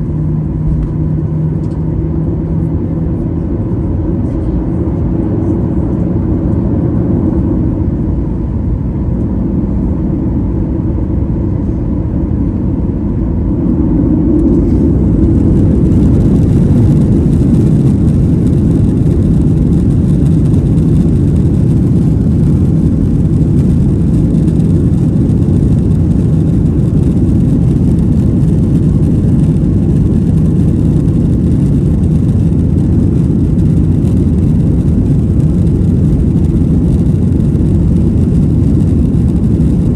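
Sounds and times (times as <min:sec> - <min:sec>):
jet engines from inside cabin: 0:00.0 - 0:39.9.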